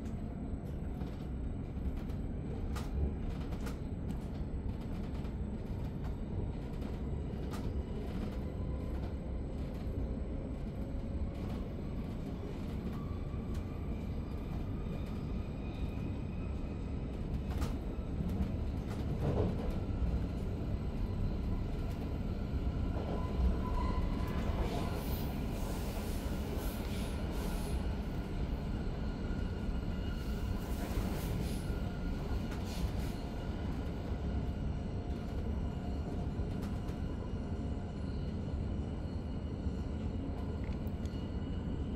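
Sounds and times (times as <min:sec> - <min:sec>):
train rumble from inside coach: 0:00.0 - 0:41.9.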